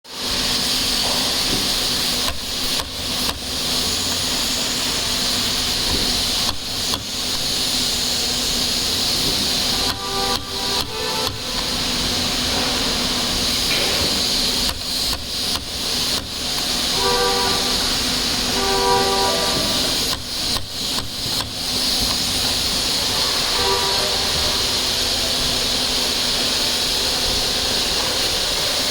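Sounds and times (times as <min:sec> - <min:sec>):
compressed air hissing from air gun: 0:00.1 - 0:28.9.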